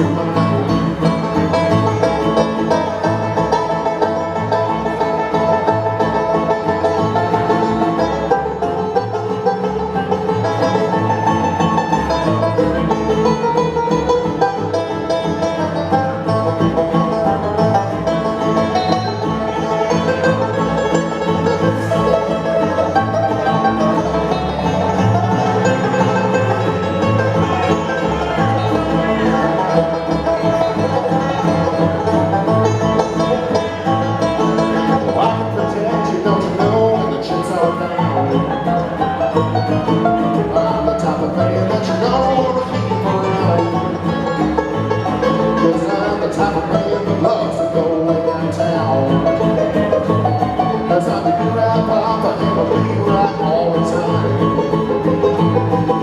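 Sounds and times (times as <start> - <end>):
banjo picking: 0.0 - 56.0
bluegrass band playing: 0.0 - 56.0.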